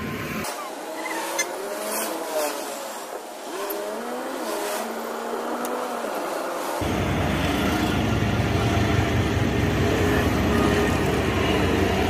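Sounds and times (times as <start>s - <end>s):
car engine whine: 0.0s - 12.0s.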